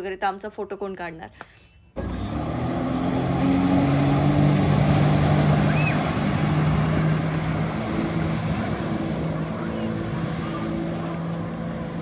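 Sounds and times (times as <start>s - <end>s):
motorboat engine running: 2.0s - 12.0s
water wash: 2.0s - 12.0s.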